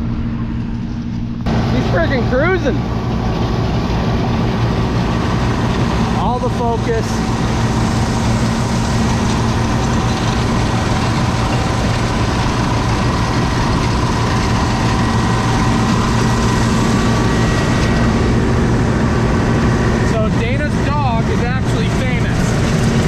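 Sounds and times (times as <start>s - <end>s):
combine harvester droning: 0.0s - 23.0s.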